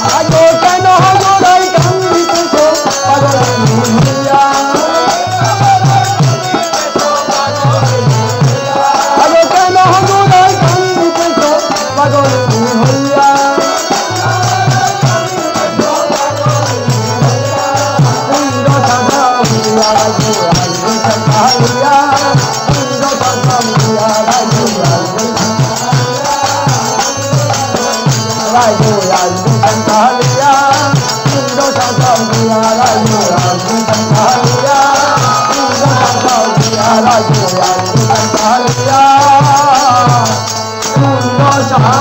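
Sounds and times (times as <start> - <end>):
drum beating steady rhythm: 0.0 - 42.0
voices singing: 0.0 - 42.0.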